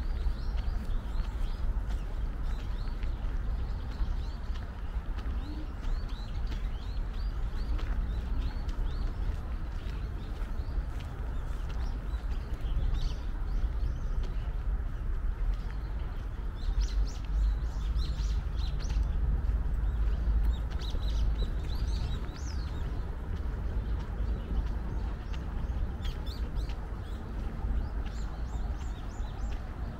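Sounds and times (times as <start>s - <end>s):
small birds chirping: 0.0s - 29.9s
steady low rumble: 0.0s - 29.9s.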